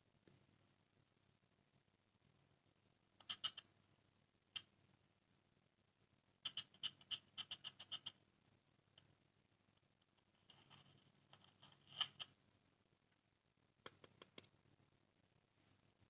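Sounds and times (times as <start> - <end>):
soft noise: 0.0 - 16.0.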